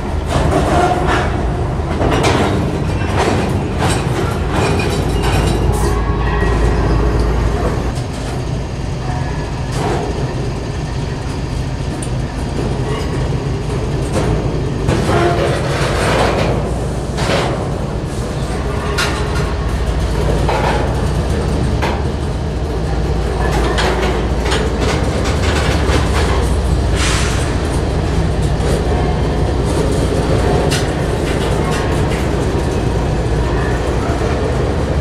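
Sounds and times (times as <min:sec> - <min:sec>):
train wheels rumbling on rail: 0:00.0 - 0:35.0
wheel and coupling clanks: 0:00.2 - 0:08.4, 0:11.3 - 0:22.4, 0:23.1 - 0:34.5.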